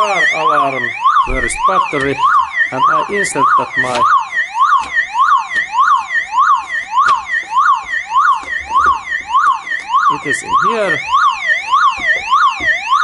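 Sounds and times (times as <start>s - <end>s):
car alarm siren warbling: 0.0s - 13.0s.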